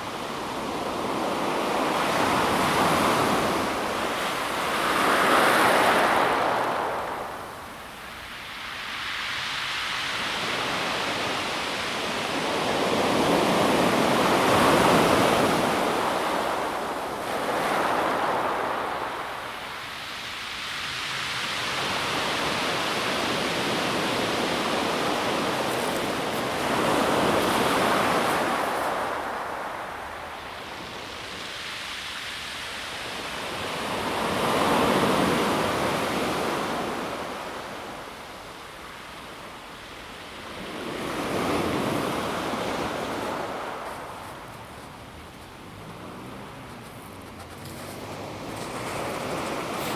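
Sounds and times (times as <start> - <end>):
waves washing onto pebble beach: 0.0 - 49.9.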